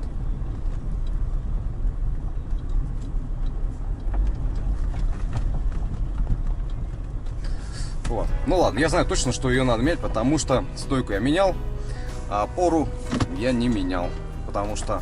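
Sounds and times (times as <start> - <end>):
road and engine rumble: 0.0 - 15.0.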